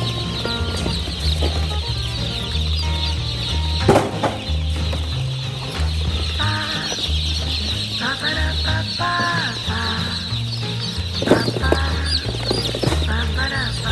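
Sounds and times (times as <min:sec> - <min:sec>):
background music with bass: 0:00.0 - 0:13.9
chicks peeping: 0:00.0 - 0:13.9.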